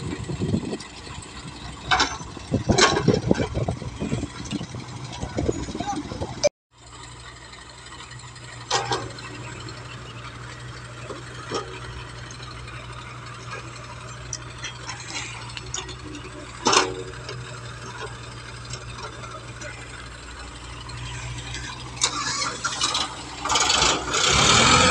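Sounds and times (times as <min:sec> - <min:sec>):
diesel engines humming: 0:00.0 - 0:24.9
excavator bucket clanking: 0:00.1 - 0:06.4, 0:08.0 - 0:24.9.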